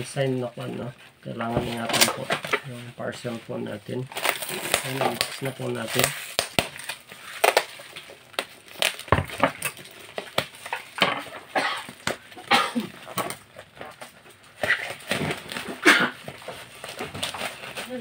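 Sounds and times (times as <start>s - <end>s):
plastic wrapping crinkling and tearing: 0.0s - 18.0s.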